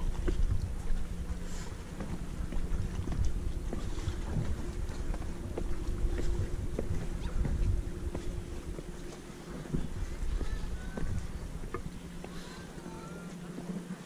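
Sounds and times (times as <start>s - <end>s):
faint steady hum: 0.0s - 14.0s
wind buffeting microphone: 0.0s - 14.0s.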